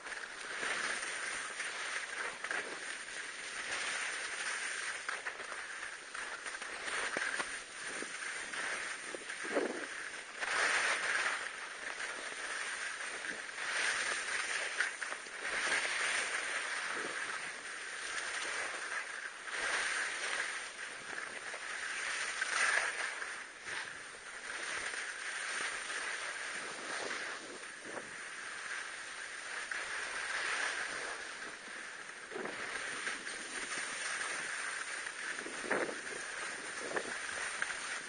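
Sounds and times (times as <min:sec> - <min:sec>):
skis hissing through snow: 0:00.0 - 0:38.0.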